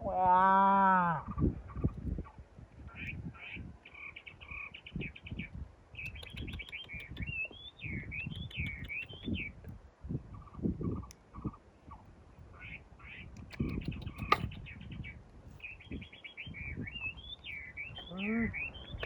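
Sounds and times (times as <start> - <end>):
small bird singing: 1.2 - 19.0.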